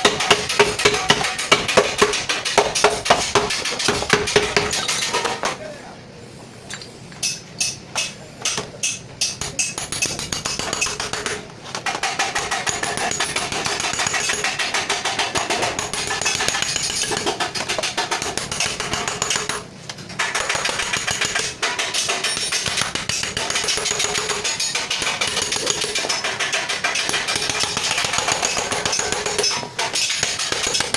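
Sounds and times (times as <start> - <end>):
hammering on metal: 0.0 - 5.6, 7.2 - 30.9.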